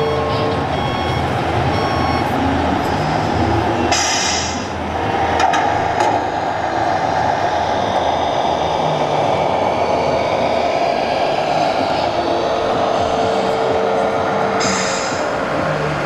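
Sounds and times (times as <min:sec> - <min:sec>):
busy hall crowd noise: 0:00.0 - 0:16.0.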